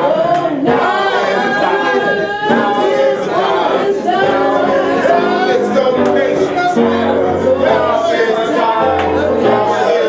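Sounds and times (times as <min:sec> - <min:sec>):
piano accompaniment: 0:00.0 - 0:10.0.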